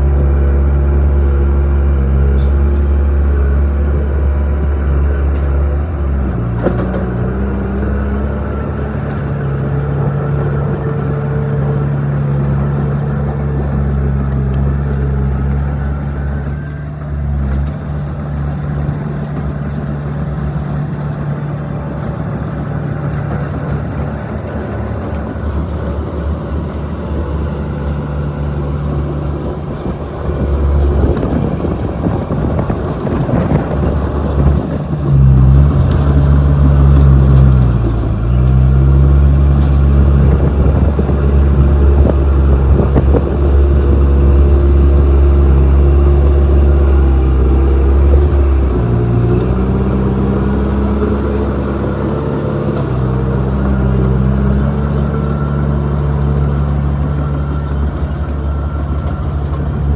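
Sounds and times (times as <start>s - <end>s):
bulldozer diesel engine working: 0.0s - 59.9s.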